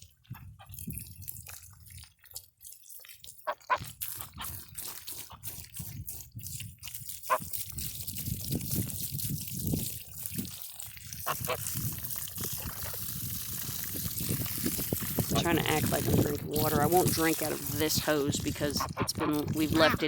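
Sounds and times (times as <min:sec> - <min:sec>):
water splashing from garden hose: 0:00.0 - 0:20.0.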